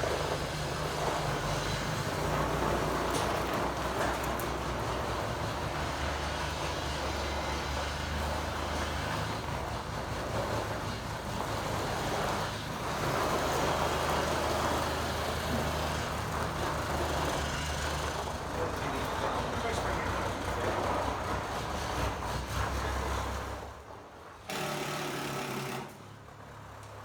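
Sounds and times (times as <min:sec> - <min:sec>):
truck engine idling: 0:00.0 - 0:24.3.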